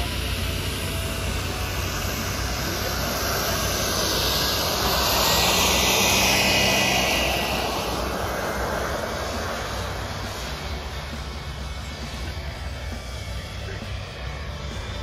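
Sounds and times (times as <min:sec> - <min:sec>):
propeller noise: 0:00.0 - 0:15.0
turbine whine: 0:00.0 - 0:15.0.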